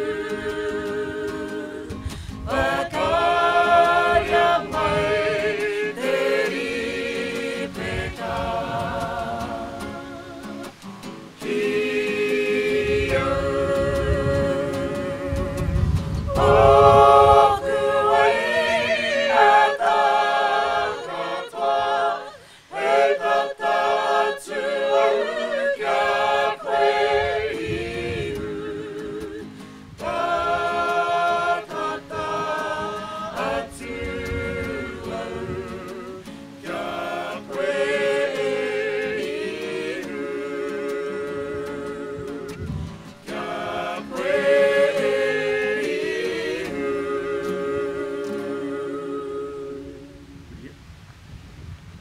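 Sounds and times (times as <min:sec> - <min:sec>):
mixed choir singing unaccompanied: 0:00.0 - 0:50.4.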